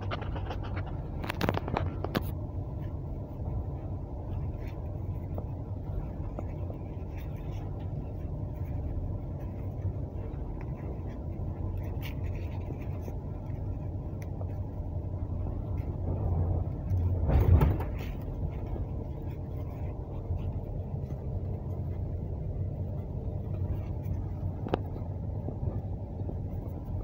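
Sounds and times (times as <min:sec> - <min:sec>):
train rumbling inside carriage: 0:00.0 - 0:27.0.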